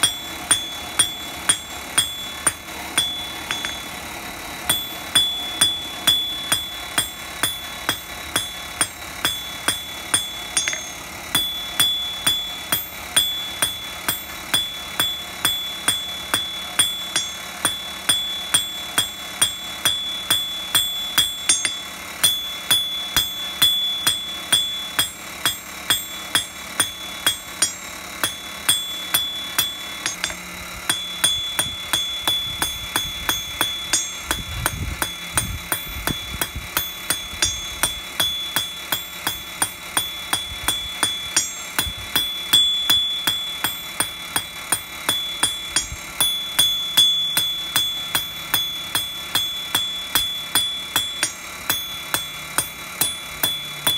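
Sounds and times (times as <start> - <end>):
anvil ringing: 0.0 - 53.9
hammer striking metal on anvil: 0.0 - 53.9.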